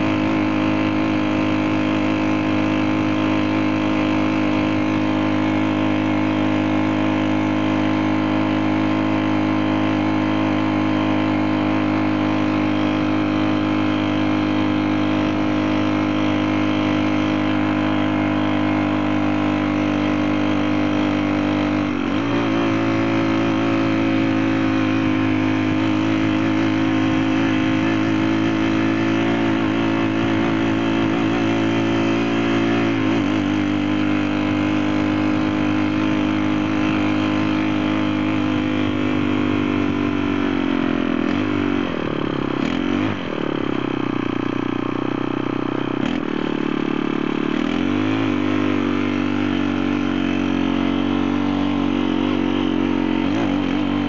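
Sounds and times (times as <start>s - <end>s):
small four-stroke engine running: 0.0s - 54.0s.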